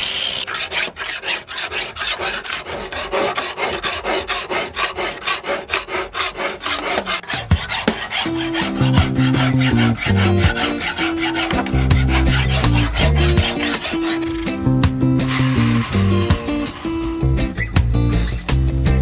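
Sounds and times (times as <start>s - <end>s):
hand file scraping steel blade: 0.0s - 18.8s.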